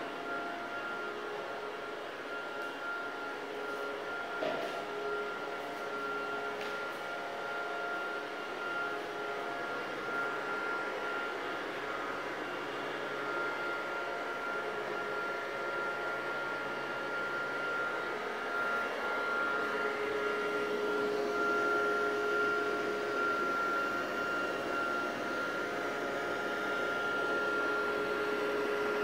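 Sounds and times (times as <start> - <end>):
electric fan whirring: 0.0 - 29.0.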